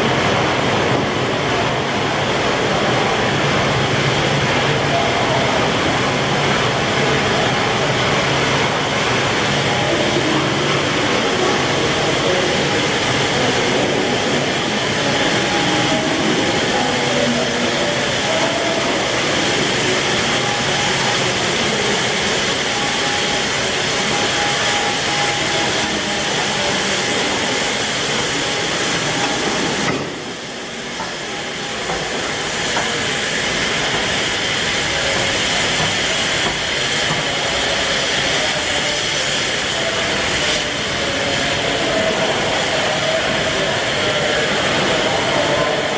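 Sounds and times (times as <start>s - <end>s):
steam hissing: 0.0s - 45.9s.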